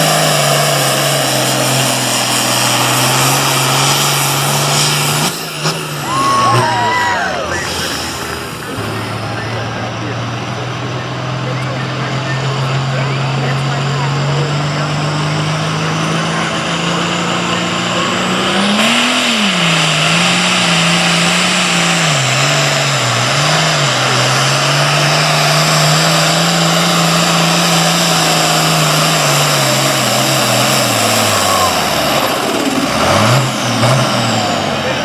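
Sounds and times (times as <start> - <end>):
tractor diesel engine under load: 0.0 - 35.0.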